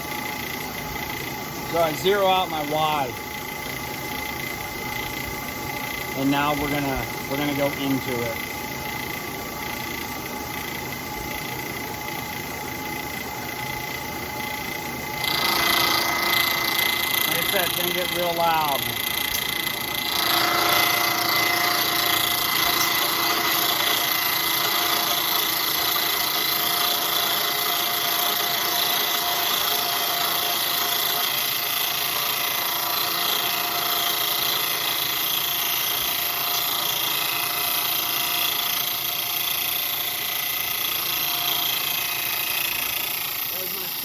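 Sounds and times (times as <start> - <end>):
milling machine cutting: 0.0 - 44.0.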